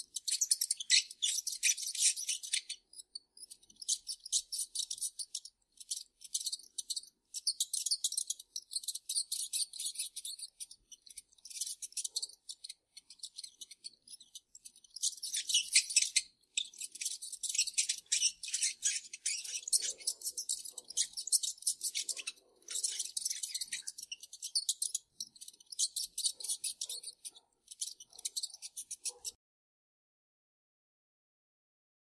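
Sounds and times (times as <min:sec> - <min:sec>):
mice squeaking: 0:00.0 - 0:29.4.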